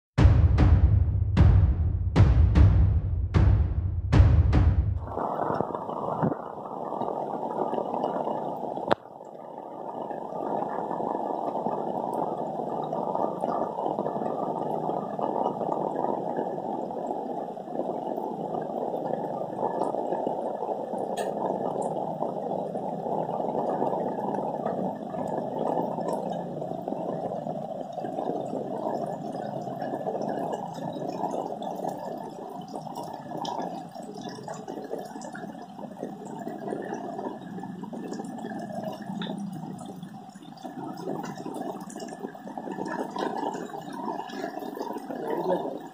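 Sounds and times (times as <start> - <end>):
rain falling: 5.0 - 45.9.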